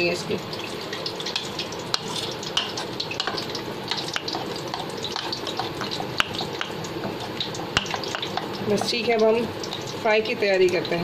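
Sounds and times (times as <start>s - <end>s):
spoon stirring thick batter: 1.0s - 10.0s.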